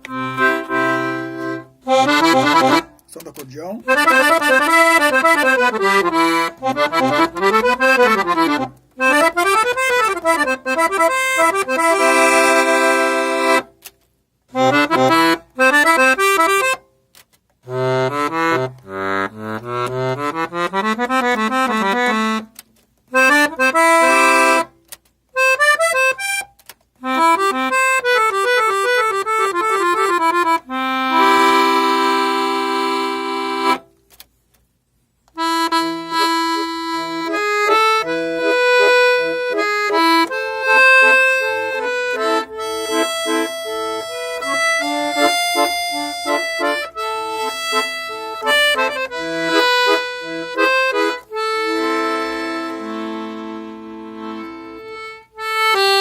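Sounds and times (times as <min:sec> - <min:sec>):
piano accordion playing: 0:00.0 - 0:13.7, 0:14.5 - 0:16.8, 0:17.7 - 0:24.8, 0:25.4 - 0:34.0, 0:35.3 - 0:56.0.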